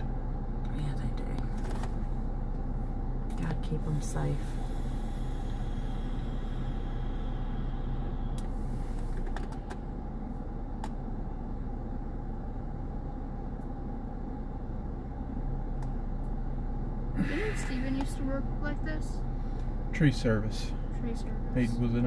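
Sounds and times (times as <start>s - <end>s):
car idling: 0.0s - 22.0s.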